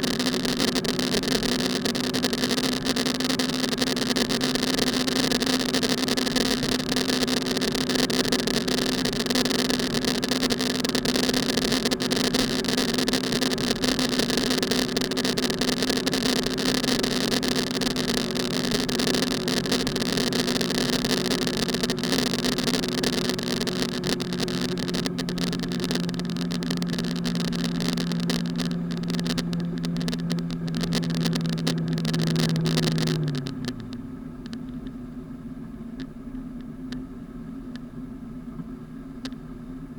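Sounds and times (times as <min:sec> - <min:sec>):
car engine hum: 0:00.0 - 0:39.9
road and wind noise: 0:00.0 - 0:39.9.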